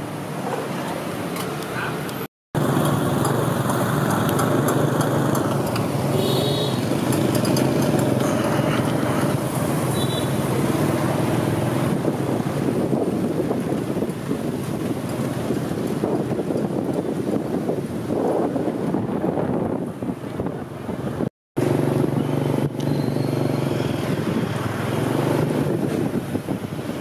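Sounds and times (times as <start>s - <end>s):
busy street traffic: 0.0s - 27.0s.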